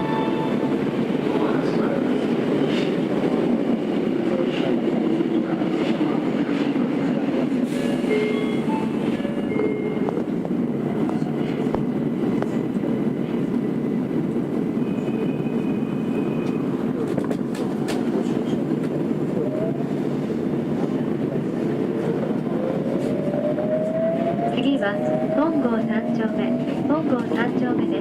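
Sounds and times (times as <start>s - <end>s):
subway train running rumble: 0.0s - 28.0s.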